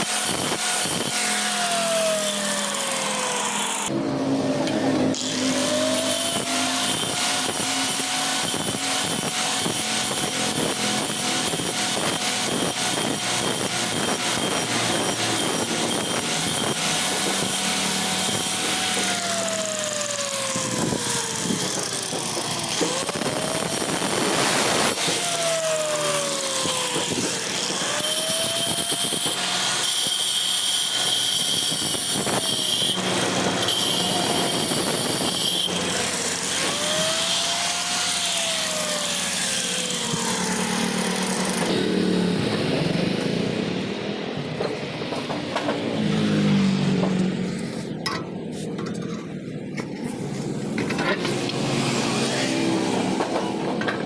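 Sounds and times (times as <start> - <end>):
power tool motor: 0.0 - 4.0, 4.6 - 43.4, 50.2 - 54.0
gritty working noise: 0.0 - 54.0.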